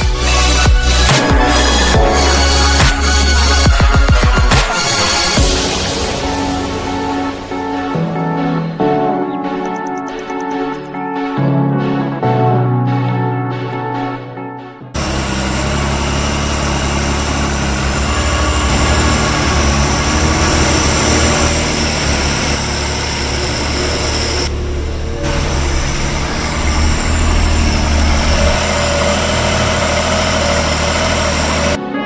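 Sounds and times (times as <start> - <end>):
car engine idling: 0.0 - 10.6, 15.0 - 31.8.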